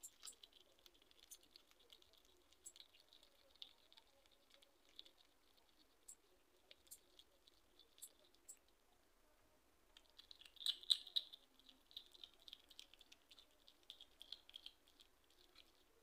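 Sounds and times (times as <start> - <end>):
hedgehog chewing crunching clicks: 0.0 - 8.8, 9.9 - 16.0.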